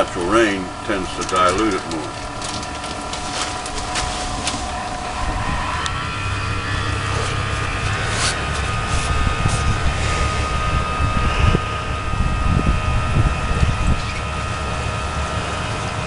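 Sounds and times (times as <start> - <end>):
faint steady whine: 0.0 - 16.0
low engine rumble: 0.0 - 16.0.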